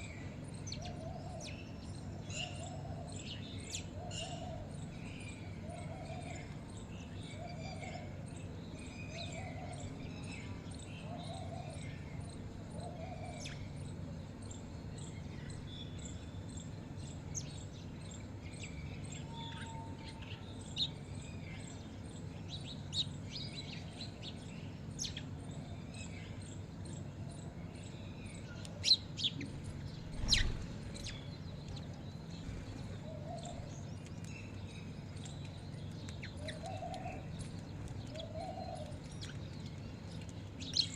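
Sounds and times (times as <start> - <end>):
birds chirping: 0.0 - 40.9
low steady hum: 0.0 - 40.9.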